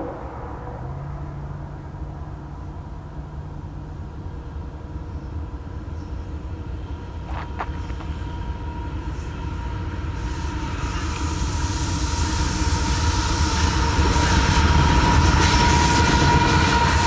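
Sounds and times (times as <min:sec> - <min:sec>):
faint high whine: 0:00.0 - 0:17.0
locomotive engine rumble: 0:00.0 - 0:17.0.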